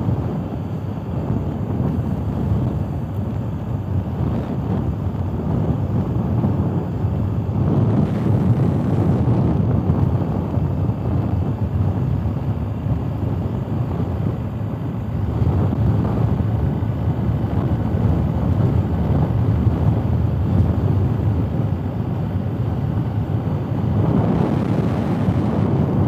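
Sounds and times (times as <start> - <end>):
motorcycle engine and tyres rumble: 0.0 - 26.0
wind rush on microphone: 0.0 - 26.0.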